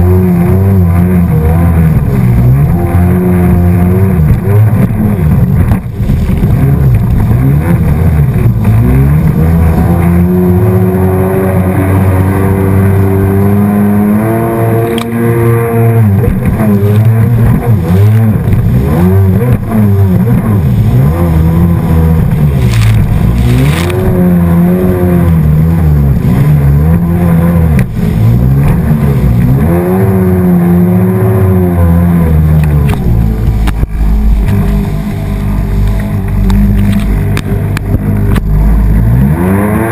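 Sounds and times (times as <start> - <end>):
watercraft engine running: 0.0 - 39.8
rush of water: 0.0 - 39.9.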